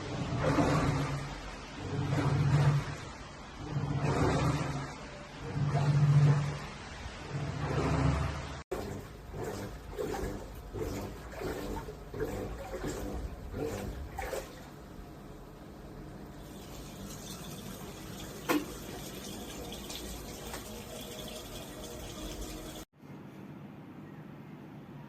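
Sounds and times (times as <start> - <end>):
washing machine water sloshing: 0.0 - 23.0.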